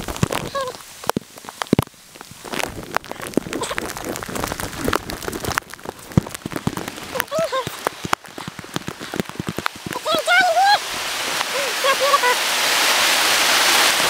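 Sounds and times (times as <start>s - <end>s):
rain pattering on plastic bag: 0.0s - 14.0s.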